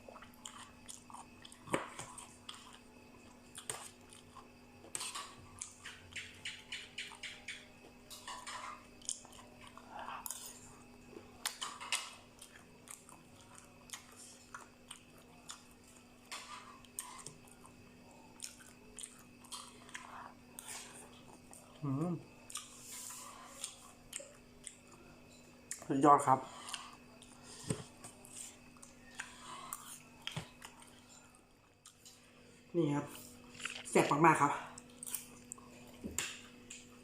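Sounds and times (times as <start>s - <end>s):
person chewing crunchy food: 0.0s - 7.2s, 7.8s - 32.4s, 33.2s - 37.0s.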